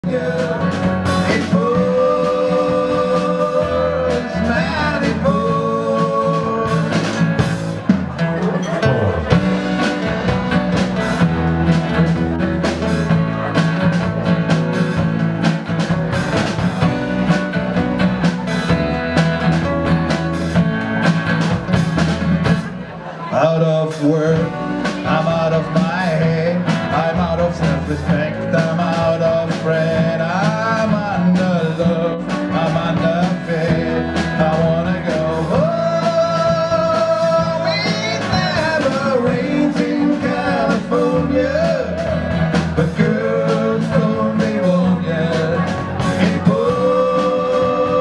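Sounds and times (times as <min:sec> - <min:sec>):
drum beat: 0:00.0 - 0:22.8, 0:24.4 - 0:48.0
live country rock band: 0:00.0 - 0:48.0.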